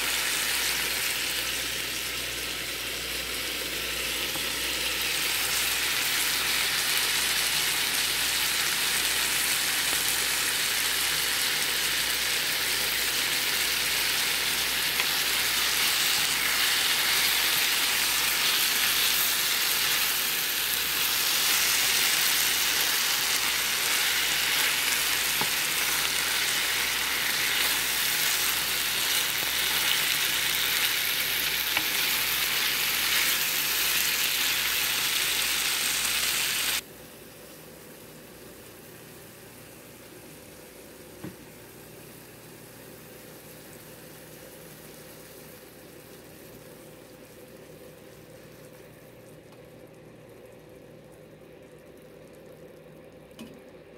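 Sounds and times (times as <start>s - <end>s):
vegetables sizzling in a frying pan: 0.0s - 49.0s.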